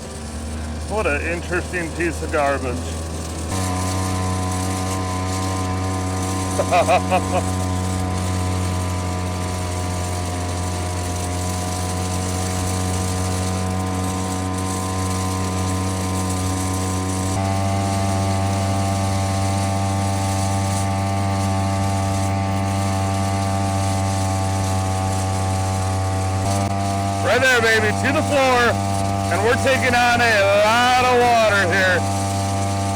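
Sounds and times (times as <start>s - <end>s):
outboard motor running: 0.0s - 32.9s.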